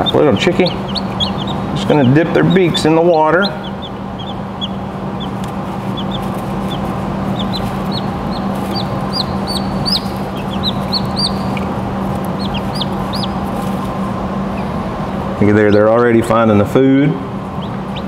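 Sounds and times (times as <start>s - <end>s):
chicks peeping: 0.0s - 16.0s, 17.4s - 18.0s
low hum: 0.0s - 18.0s.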